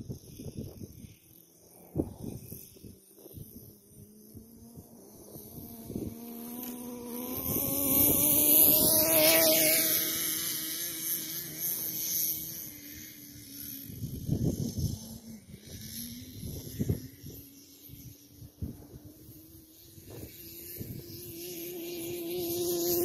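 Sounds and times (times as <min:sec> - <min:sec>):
model truck engine passing by: 0:00.1 - 0:23.0.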